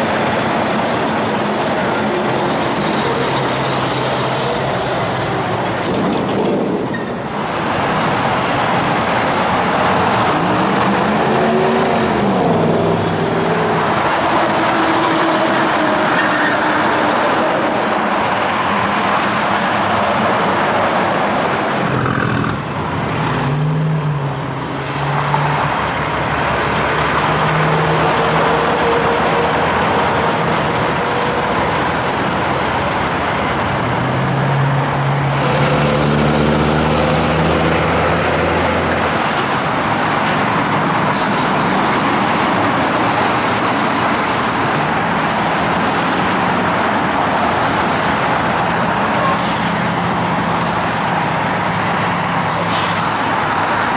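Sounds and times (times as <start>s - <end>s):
heavy truck engine hum: 0.0s - 53.9s
highway traffic: 0.0s - 53.9s.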